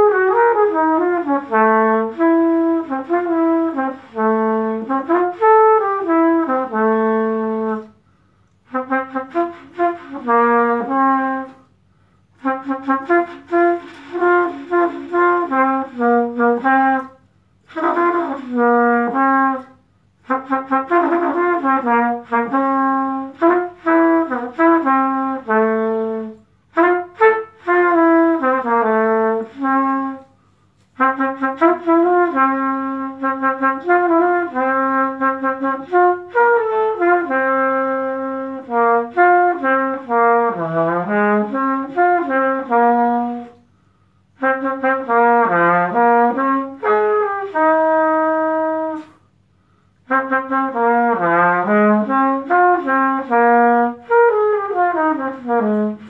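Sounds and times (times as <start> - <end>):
trumpet playing slow melody: 0.0 - 56.0.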